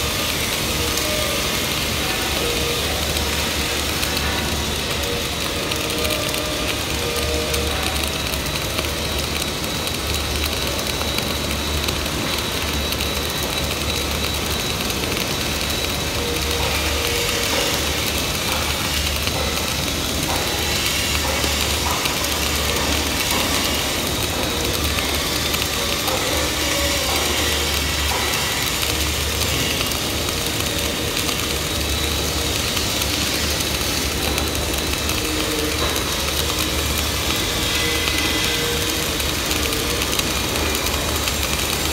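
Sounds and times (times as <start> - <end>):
welding arc crackling hiss: 0.0 - 41.9.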